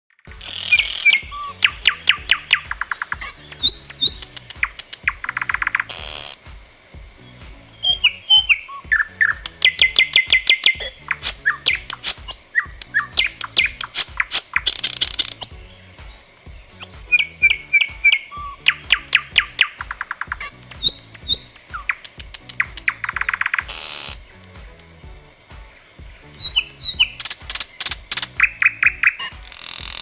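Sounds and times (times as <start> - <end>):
nightingale singing: 0.2 - 30.0
music with stepping bass line: 0.3 - 30.0.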